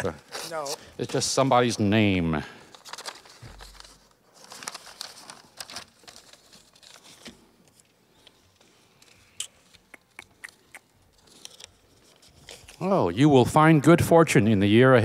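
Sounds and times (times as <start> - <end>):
paper wrapper crinkling: 0.0 - 1.8, 2.5 - 12.9.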